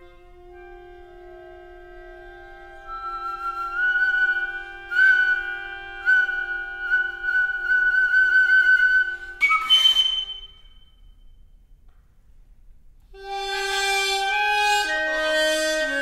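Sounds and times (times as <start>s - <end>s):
held wind instrument tones: 0.0s - 11.5s, 13.1s - 16.0s.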